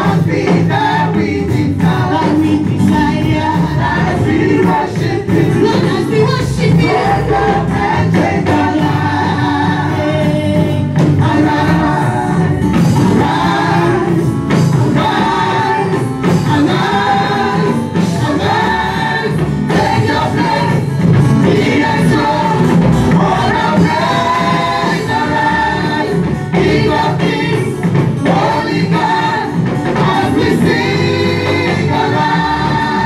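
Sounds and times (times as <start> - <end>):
band with steady beat: 0.0 - 33.0
choir singing gospel: 0.0 - 33.0.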